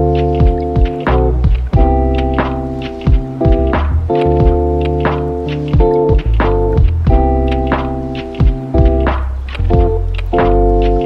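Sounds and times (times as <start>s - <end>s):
deep drum thumps: 0.0s - 11.0s
low bass: 0.0s - 11.0s
organ-like keyboard chords: 0.0s - 11.0s.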